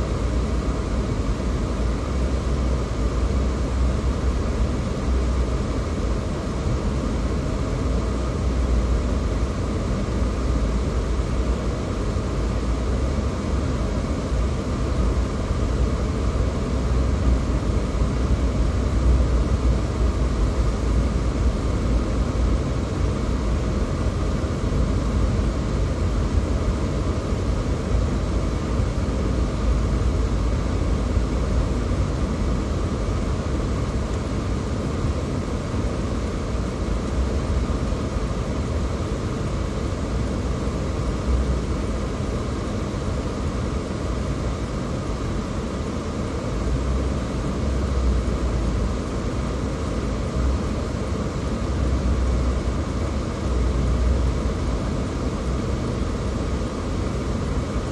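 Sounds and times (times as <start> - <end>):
car road and engine noise: 0.0 - 57.9.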